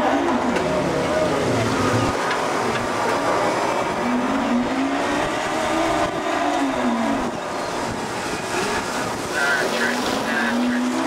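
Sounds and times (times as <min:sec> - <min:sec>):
boat engine noise: 0:00.0 - 0:11.0
sea: 0:00.0 - 0:11.0
wind: 0:00.0 - 0:11.0.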